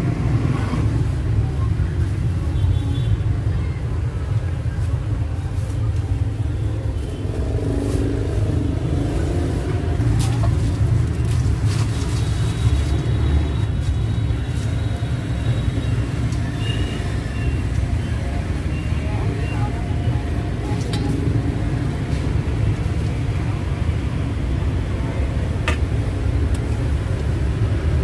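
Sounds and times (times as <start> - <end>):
motorbike traffic rumble: 0.0 - 28.0.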